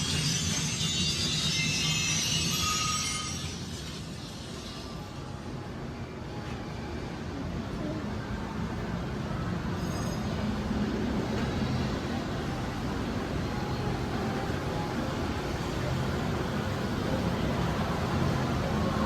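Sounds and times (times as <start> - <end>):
ride car running on track: 0.0 - 19.0.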